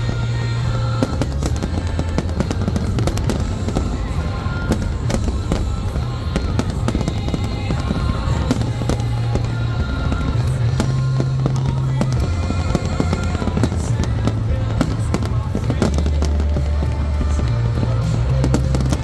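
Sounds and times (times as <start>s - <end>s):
fireworks bangs and crackles: 0.0s - 19.0s
low rumble: 0.0s - 19.0s.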